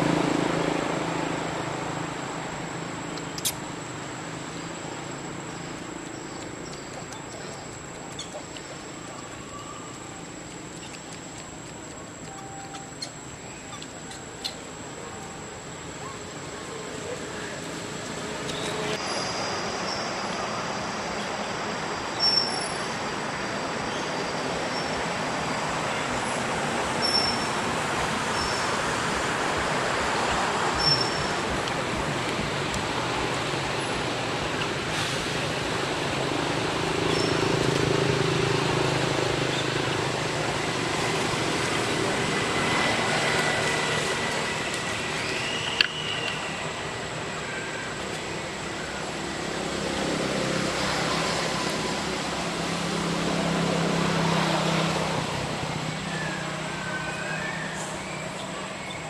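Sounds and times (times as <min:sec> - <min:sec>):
road traffic hum: 0:00.0 - 0:59.0.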